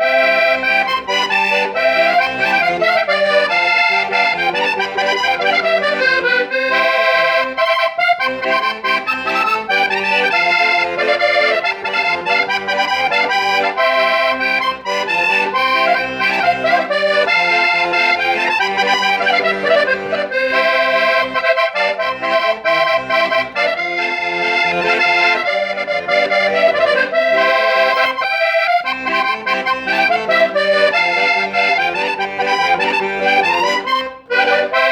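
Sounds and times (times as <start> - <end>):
button accordion melody: 0.0 - 34.9.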